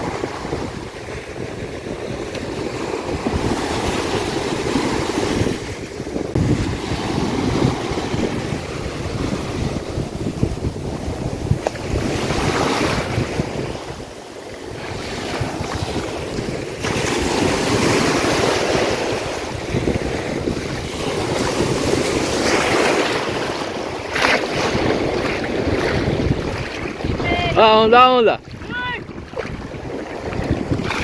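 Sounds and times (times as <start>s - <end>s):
waves breaking on beach: 0.0s - 31.0s
wind buffeting microphone: 0.0s - 31.0s.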